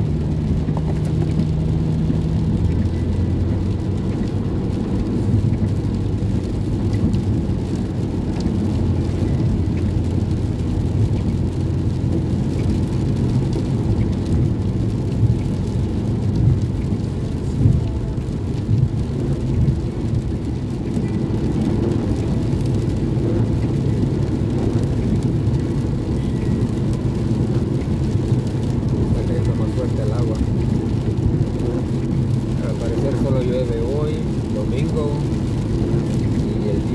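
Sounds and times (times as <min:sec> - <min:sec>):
rain on car: 0:00.0 - 0:36.9
tyres on wet pavement: 0:00.0 - 0:36.9.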